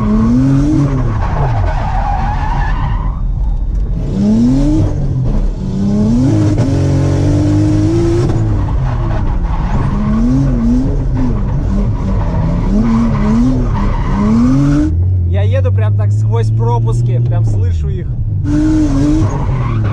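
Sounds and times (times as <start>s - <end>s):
car engine revving with misfires: 0.0s - 19.9s.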